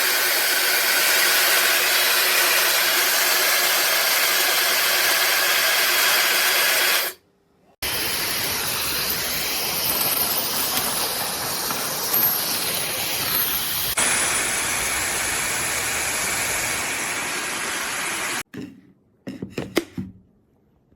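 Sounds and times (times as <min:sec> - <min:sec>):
hair dryer blowing: 0:00.0 - 0:07.2, 0:07.8 - 0:18.5.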